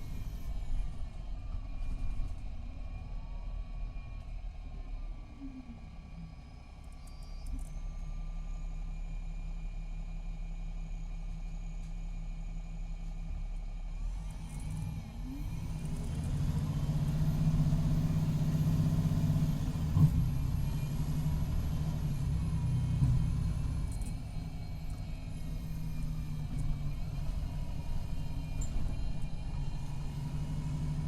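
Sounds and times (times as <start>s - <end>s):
diesel bus engine idling and revving: 0.0s - 31.0s.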